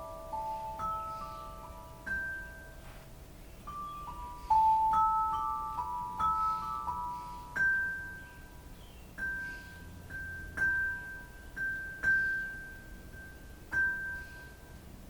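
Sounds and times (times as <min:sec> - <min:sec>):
struck metal chime ringing: 0:00.0 - 0:14.9.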